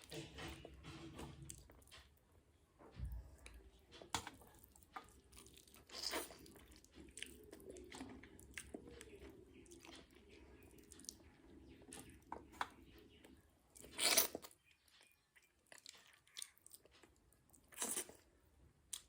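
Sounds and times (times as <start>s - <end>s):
chewing food with crunches: 2.9s - 19.0s.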